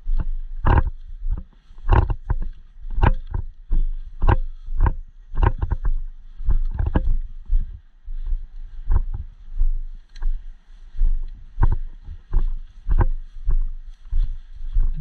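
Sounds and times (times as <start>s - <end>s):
footsteps crunching on rough ground: 0.0s - 15.0s
low rumble on microphone: 0.0s - 15.0s.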